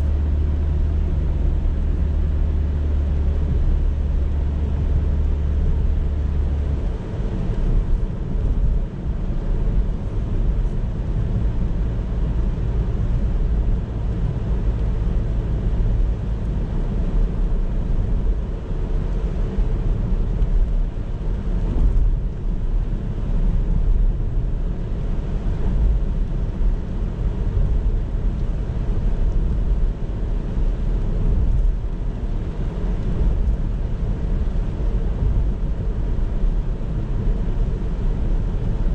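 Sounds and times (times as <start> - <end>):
car tyre and engine rumble: 0.0 - 38.9
deep steady hum: 0.0 - 38.9.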